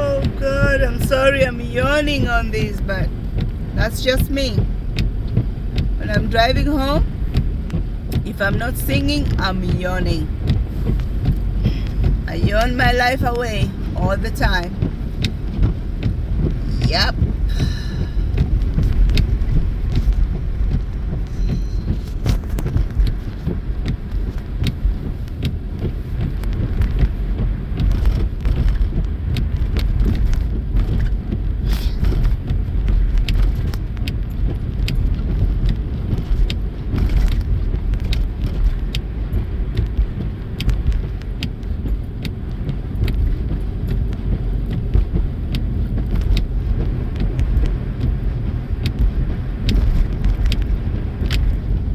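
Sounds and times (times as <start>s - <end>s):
engine and tyre rumble in car: 0.0s - 51.9s.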